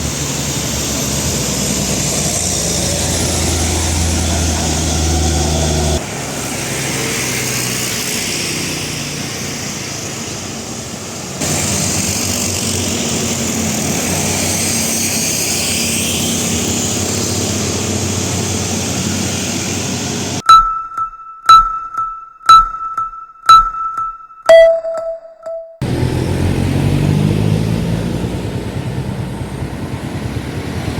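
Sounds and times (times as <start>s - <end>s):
heavy diesel engine under load: 0.0s - 20.4s, 25.8s - 30.9s
road and wind noise: 0.0s - 20.4s, 25.8s - 30.9s.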